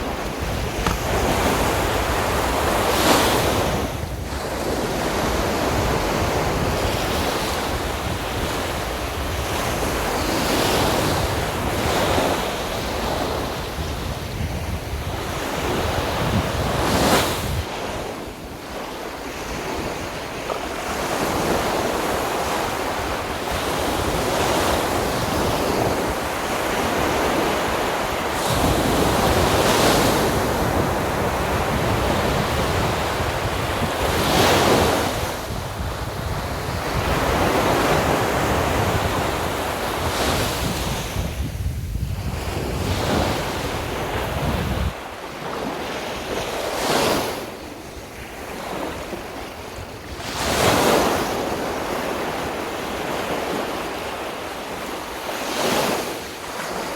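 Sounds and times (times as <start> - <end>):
wind buffeting microphone: 0.0 - 56.0
sea waves breaking on beach: 0.0 - 56.9.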